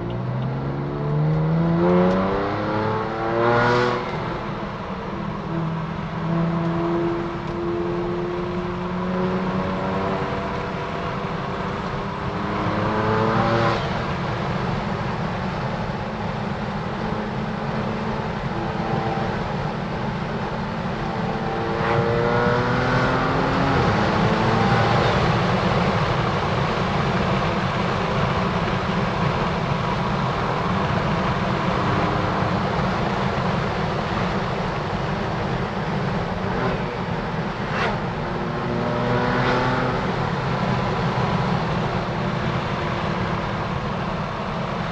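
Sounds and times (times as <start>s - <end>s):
car engine accelerating hard: 0.0s - 44.9s
road noise: 0.0s - 44.9s.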